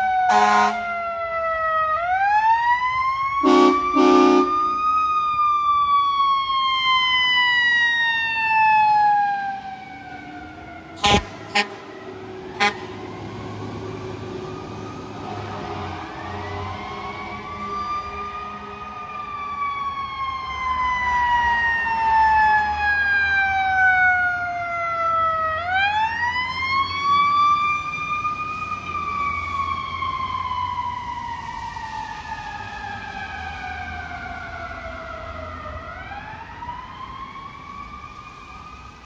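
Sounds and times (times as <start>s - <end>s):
ambulance siren wailing: 0.0s - 39.0s.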